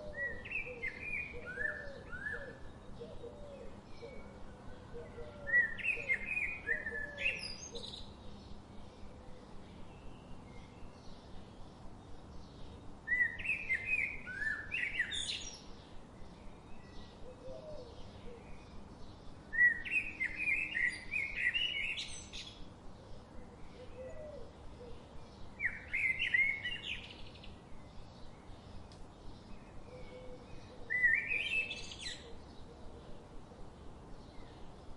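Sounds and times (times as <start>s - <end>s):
background hiss: 0.0s - 34.9s
songbird chirping: 0.0s - 34.9s.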